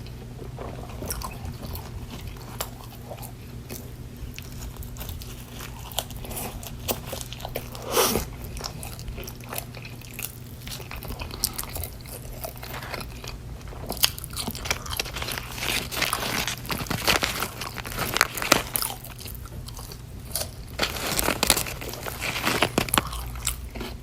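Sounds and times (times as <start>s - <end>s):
chewing and crunching food: 0.0s - 24.0s
low steady hum: 0.0s - 24.0s.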